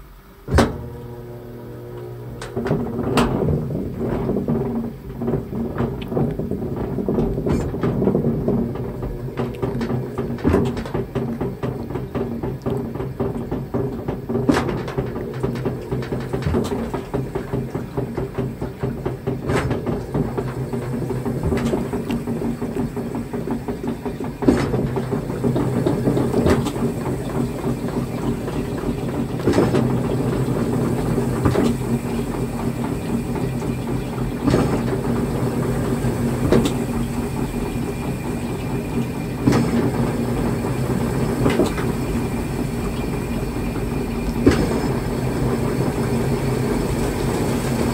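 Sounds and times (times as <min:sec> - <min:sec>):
washing machine motor hum: 0:00.0 - 0:47.9
water churning: 0:00.0 - 0:47.9
washing machine knock: 0:00.4 - 0:01.4, 0:02.4 - 0:47.9.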